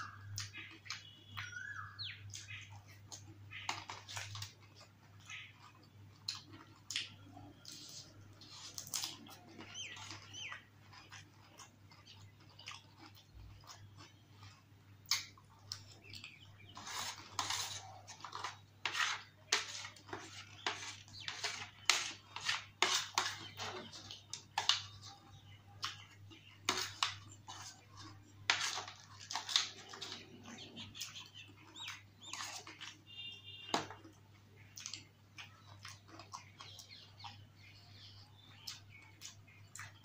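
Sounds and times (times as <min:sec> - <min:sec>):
wet chewing and crunching: 0:00.0 - 0:40.0.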